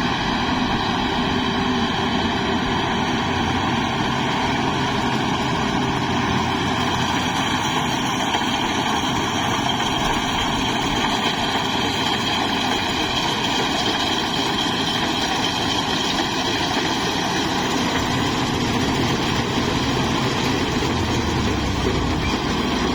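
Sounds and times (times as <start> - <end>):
combine harvester drone: 0.0 - 22.9.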